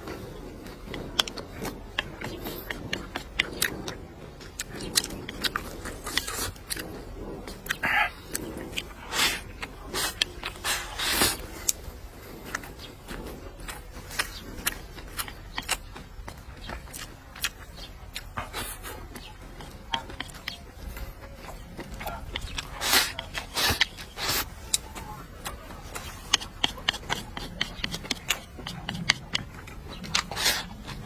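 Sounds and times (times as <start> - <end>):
noisy eating bursts: 0.0 - 31.0
eating clicks: 0.1 - 31.0.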